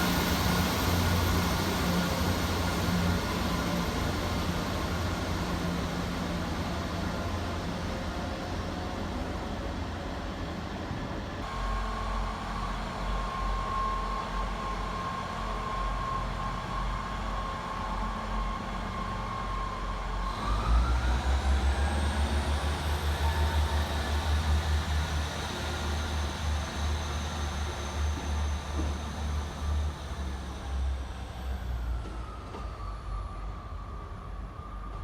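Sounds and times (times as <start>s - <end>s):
diesel train engine whining: 0.0s - 35.0s.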